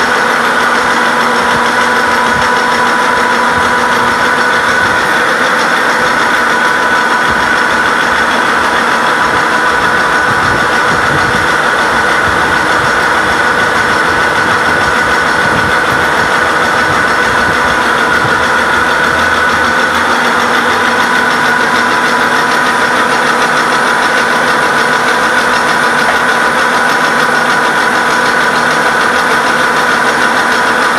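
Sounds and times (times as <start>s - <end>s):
milling machine whine: 0.0s - 30.9s.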